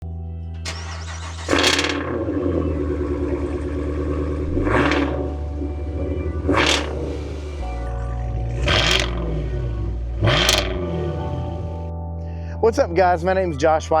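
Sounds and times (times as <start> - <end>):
car engine revving: 0.6 - 11.9.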